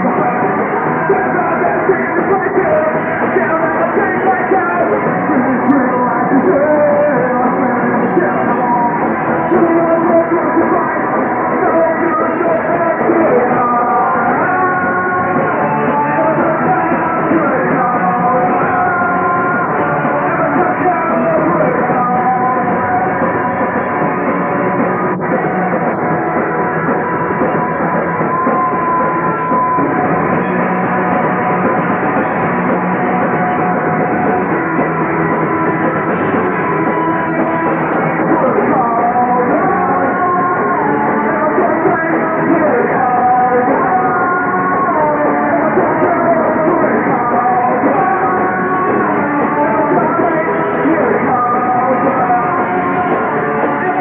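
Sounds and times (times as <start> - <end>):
person singing: 0.0 - 54.0
rock band playing live: 0.0 - 54.0.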